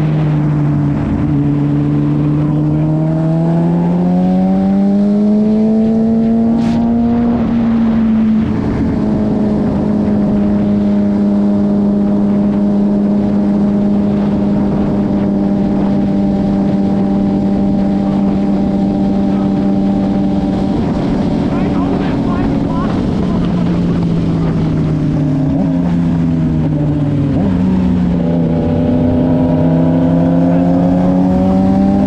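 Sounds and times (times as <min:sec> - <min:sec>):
motorcycle engine revving: 0:00.0 - 0:32.0
wind rushing: 0:00.0 - 0:32.0.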